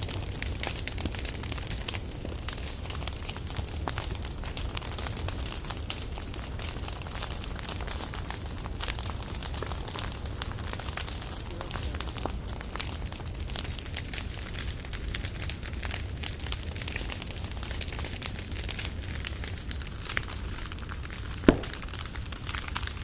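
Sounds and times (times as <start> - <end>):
burning wood crackles and pops: 0.0 - 23.0
flame rumble: 0.0 - 23.0.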